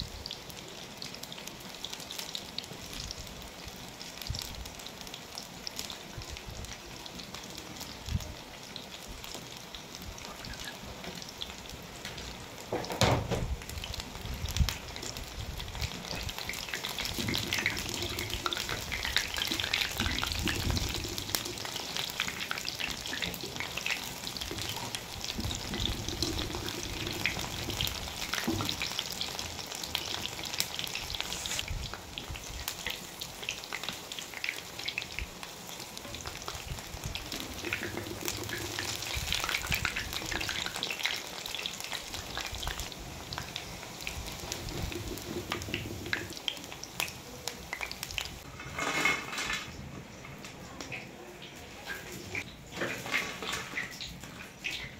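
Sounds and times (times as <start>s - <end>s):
pakoras sizzling in hot oil: 0.0s - 54.9s.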